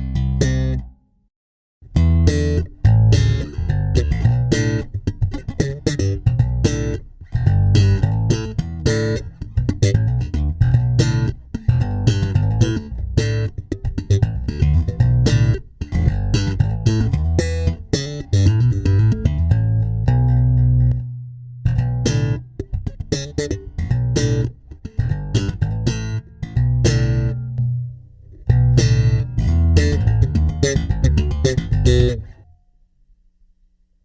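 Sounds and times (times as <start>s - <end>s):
plucked electric bass guitar: 0.0s - 1.0s, 1.8s - 32.6s.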